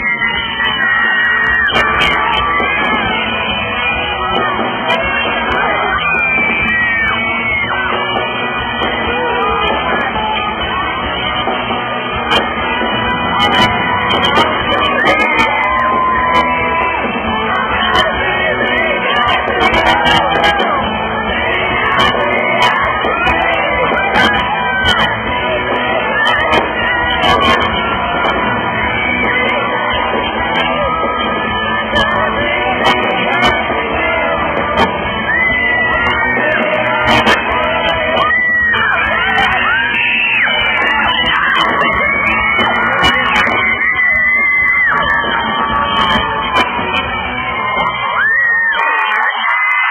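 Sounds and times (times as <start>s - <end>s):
person singing: 0.0s - 48.3s
fans screaming and singing along: 0.0s - 49.9s
live pop-rock band: 0.0s - 49.9s.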